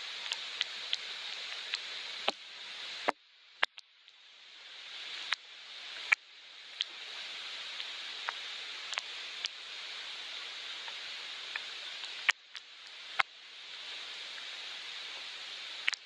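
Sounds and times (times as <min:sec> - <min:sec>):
soft rain falling: 0:00.0 - 0:16.0.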